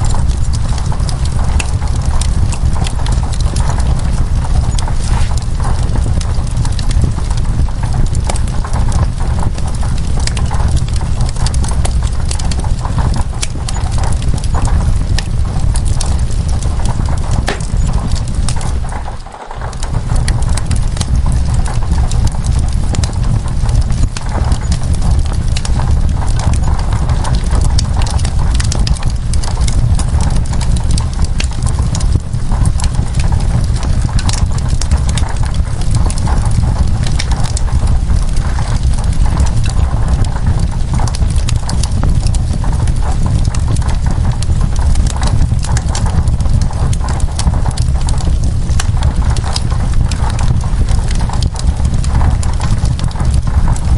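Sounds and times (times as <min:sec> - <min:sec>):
low rumble: 0:00.0 - 0:53.9
wood fire crackling: 0:00.0 - 0:53.9.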